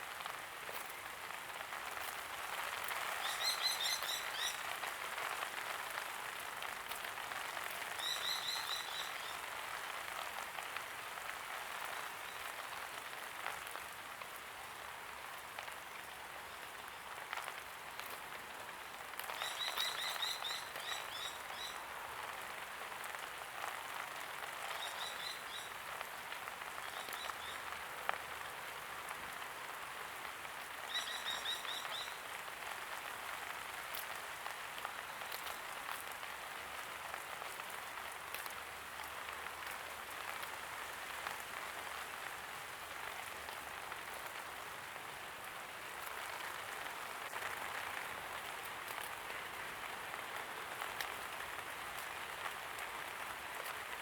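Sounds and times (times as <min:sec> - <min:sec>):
light rain: 0:00.0 - 0:54.0.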